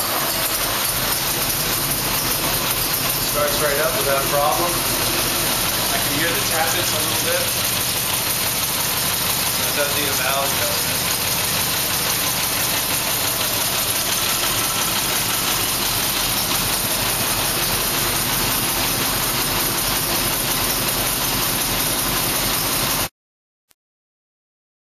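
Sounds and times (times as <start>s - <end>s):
car engine idling: 0.0s - 23.1s
engine tappet noise: 0.0s - 23.1s.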